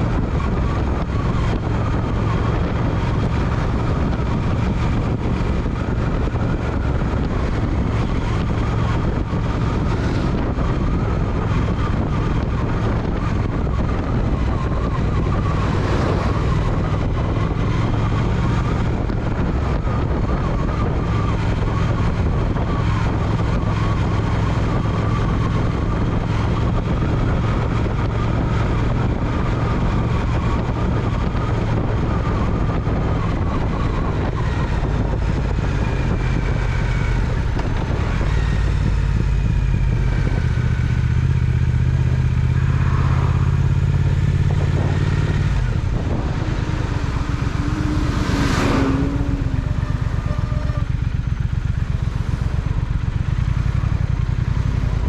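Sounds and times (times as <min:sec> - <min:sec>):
motorcycle engine cruising: 0:00.0 - 0:55.0
wind noise on microphone: 0:00.0 - 0:55.0.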